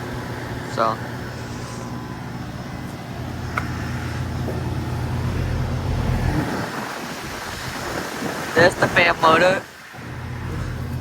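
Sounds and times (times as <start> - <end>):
heat pump compressor humming: 0.0 - 11.0.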